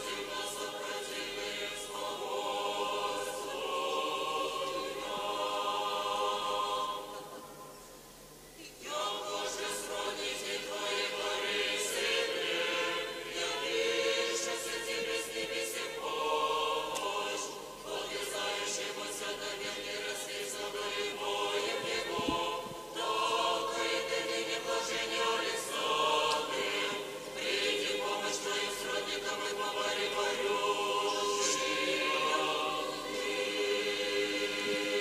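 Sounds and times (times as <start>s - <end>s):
choir singing unaccompanied: 0.0s - 7.8s, 8.6s - 35.0s.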